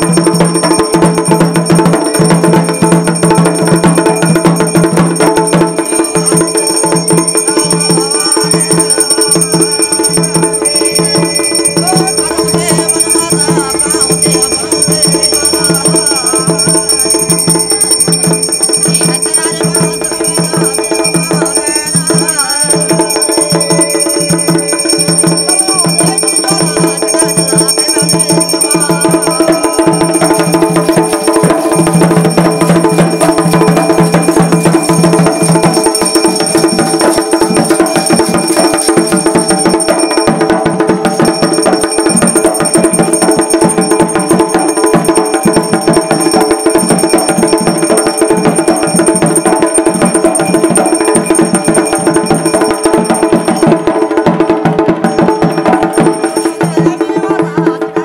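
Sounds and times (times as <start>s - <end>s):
fast dense percussion: 0.0s - 58.0s
steady held tones: 0.0s - 58.0s.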